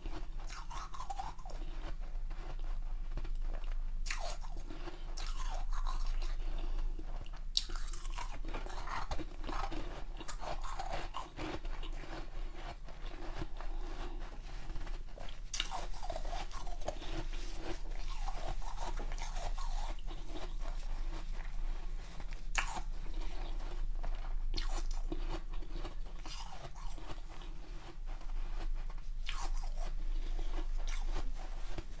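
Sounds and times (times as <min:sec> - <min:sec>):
ice crunching while chewed: 0:00.0 - 0:32.0.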